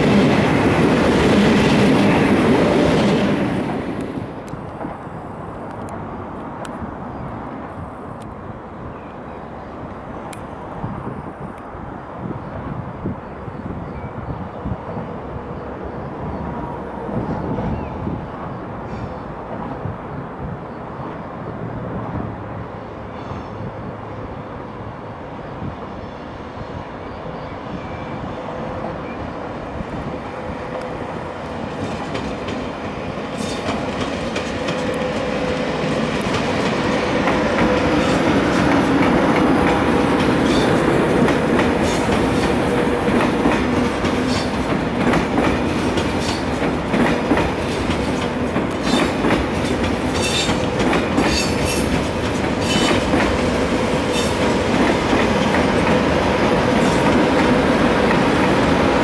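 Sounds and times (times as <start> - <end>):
train running on rails: 0.0 - 59.0.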